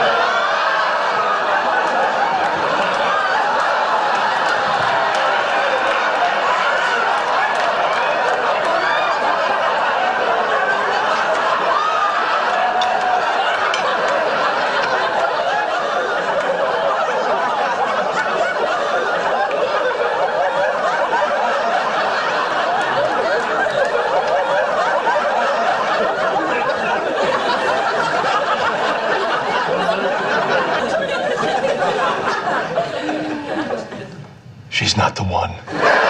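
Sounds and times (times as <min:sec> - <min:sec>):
studio audience laughing: 0:00.0 - 0:34.3, 0:35.7 - 0:36.0.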